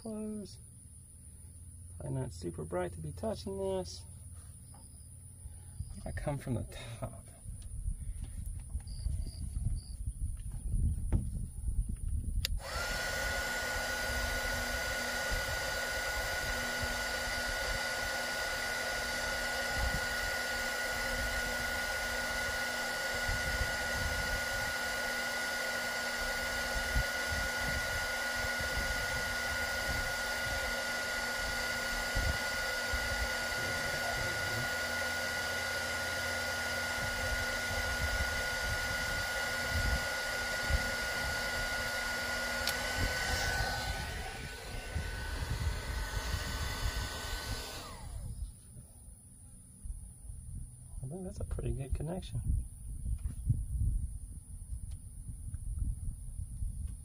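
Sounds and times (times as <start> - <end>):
heat gun fan whine: 0.0 - 57.0.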